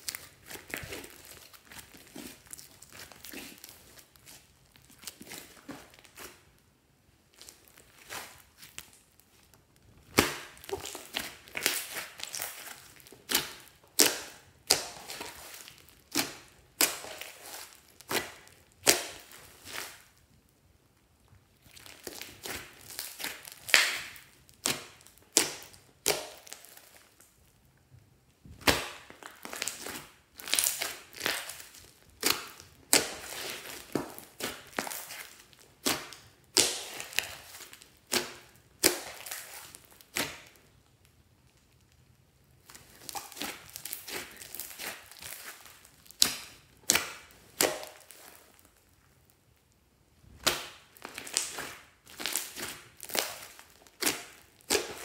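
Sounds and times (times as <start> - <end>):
slime popping and squelching: 0.0 - 6.6, 7.3 - 20.2, 21.5 - 27.3, 28.5 - 40.8, 42.6 - 49.3, 50.2 - 55.0.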